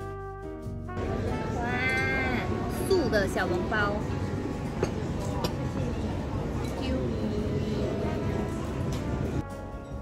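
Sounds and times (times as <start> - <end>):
background music: 0.0 - 10.0
busy restaurant noise: 0.0 - 10.0.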